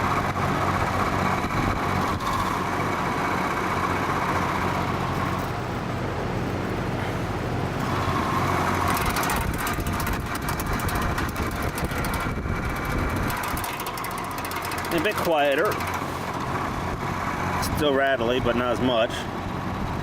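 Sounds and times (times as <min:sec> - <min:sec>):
box fan motor hum: 0:00.0 - 0:20.0
fan bearing rattle: 0:00.0 - 0:20.0.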